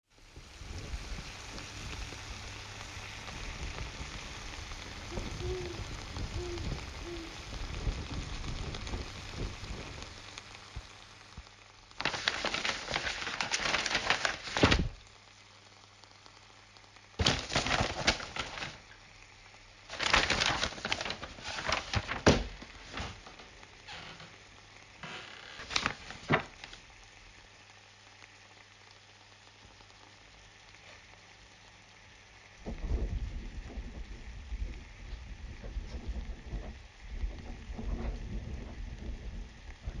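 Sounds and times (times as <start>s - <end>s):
crackling rustling bursts: 0.0s - 40.0s.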